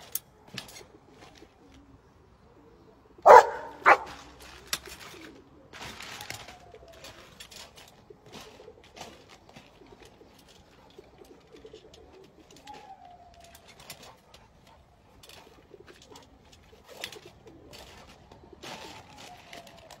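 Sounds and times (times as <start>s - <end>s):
trampoline creaks and taps: 0.0s - 1.6s, 3.3s - 20.0s.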